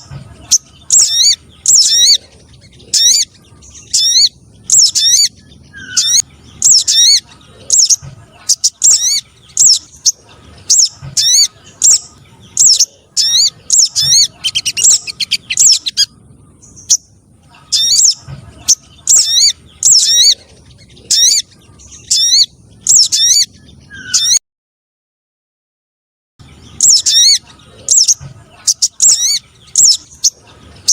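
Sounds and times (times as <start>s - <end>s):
high wavering bird calls: 0.0s - 24.4s, 26.4s - 30.9s.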